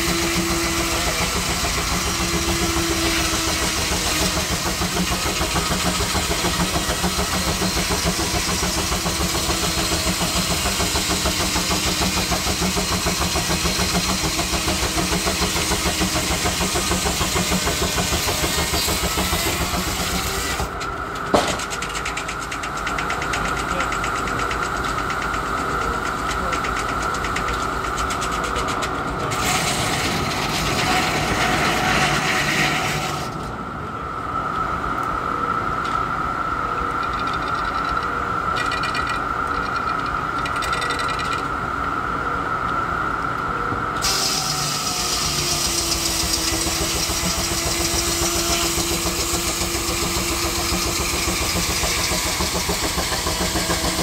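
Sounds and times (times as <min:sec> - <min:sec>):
sawmill saw blade whining: 0:00.0 - 0:33.6, 0:44.0 - 0:54.0.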